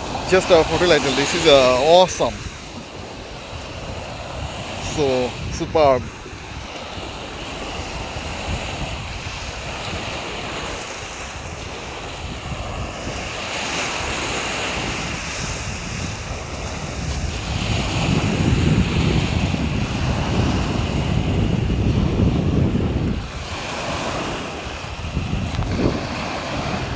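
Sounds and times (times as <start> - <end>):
sea waves breaking on beach: 0.0 - 26.9
wind rumbling on microphone: 0.0 - 26.9.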